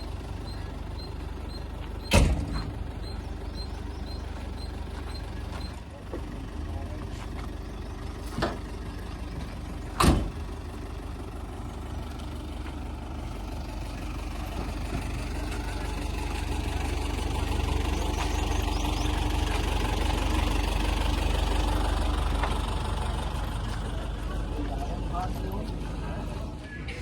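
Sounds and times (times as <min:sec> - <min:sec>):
backhoe diesel engine running: 0:00.0 - 0:27.0.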